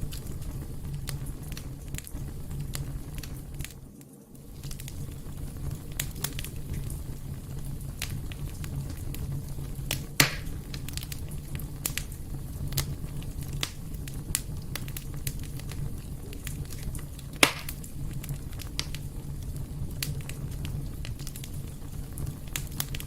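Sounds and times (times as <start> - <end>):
fire crackling: 0.0 - 23.0
fire rumbling: 0.0 - 23.0
wood fire popping: 0.0 - 23.0.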